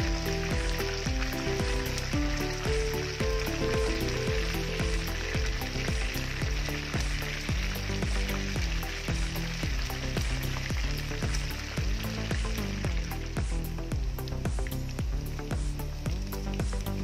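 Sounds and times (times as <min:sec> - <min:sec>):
background music with beat: 0:00.0 - 0:17.0
meat sizzling in hot oil: 0:00.0 - 0:17.0.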